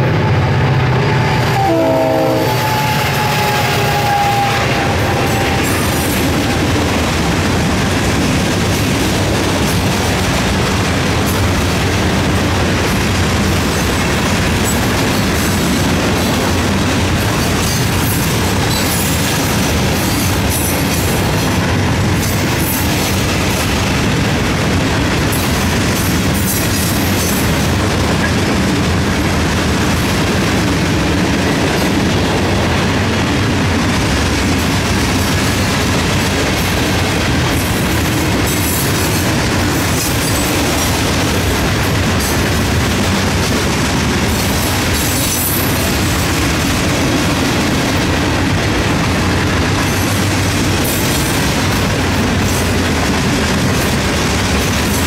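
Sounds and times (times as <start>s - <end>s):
freight train wheels rumbling: 0.0s - 55.0s
wheel sets clickety-clack: 5.3s - 28.9s, 34.0s - 55.0s.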